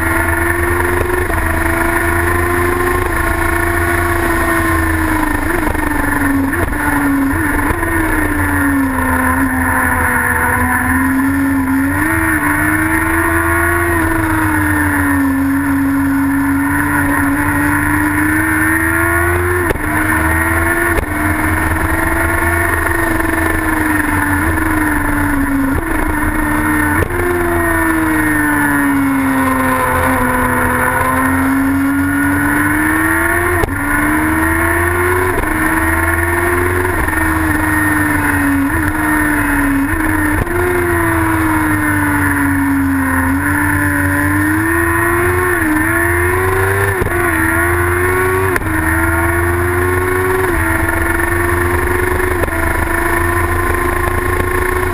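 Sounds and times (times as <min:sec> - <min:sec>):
racing engine at speed: 0:00.0 - 0:54.9.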